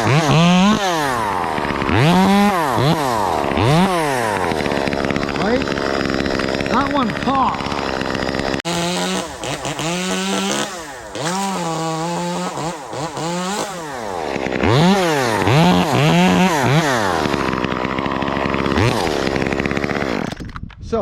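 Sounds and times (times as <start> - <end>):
chainsaw cutting: 0.0 - 20.6.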